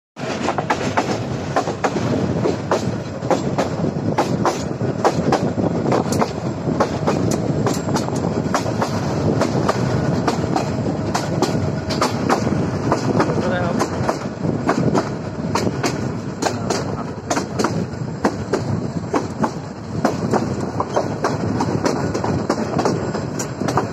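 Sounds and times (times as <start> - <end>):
train rumbling: 0.2 - 23.9
wheels clattering over rails: 0.2 - 23.9.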